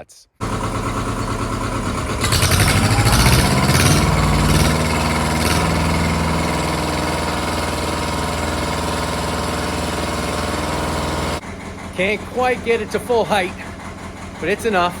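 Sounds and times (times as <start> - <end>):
tractor diesel engine revving: 0.4 - 15.0.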